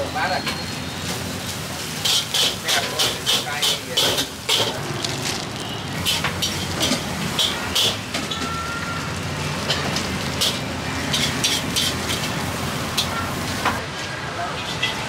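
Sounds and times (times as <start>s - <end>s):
hot oil sizzling in a wok: 0.0s - 13.8s.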